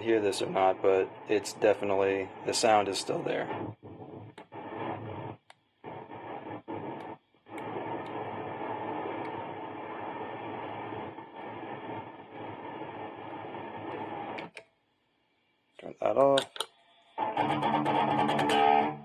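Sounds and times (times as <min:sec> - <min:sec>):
guitar pedal hiss and buzz: 0:00.0 - 0:14.6, 0:17.2 - 0:19.0.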